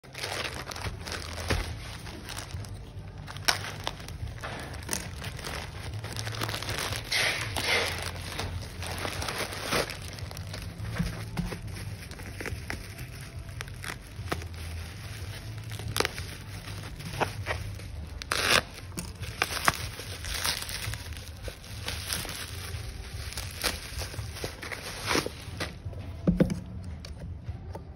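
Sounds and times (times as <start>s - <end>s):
plastic bag crinkling: 0.0s - 25.9s.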